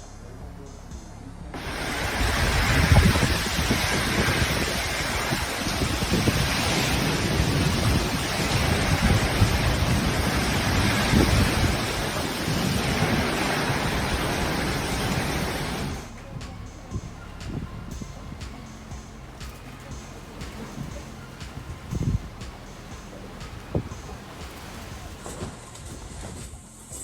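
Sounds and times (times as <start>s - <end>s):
heavy rain: 1.6s - 16.2s, 17.3s - 26.5s
wind buffeting microphone: 1.6s - 26.7s.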